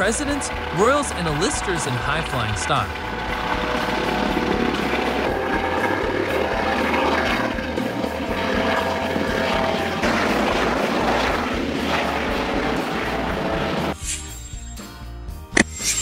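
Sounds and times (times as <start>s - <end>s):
turbine whine: 0.0s - 14.9s
helicopter rotor beat: 0.0s - 15.0s.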